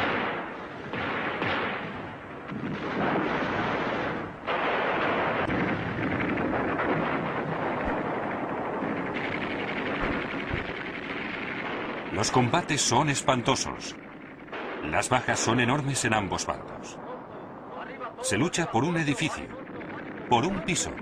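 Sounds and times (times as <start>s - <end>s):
gunfire and explosions: 0.0s - 21.0s.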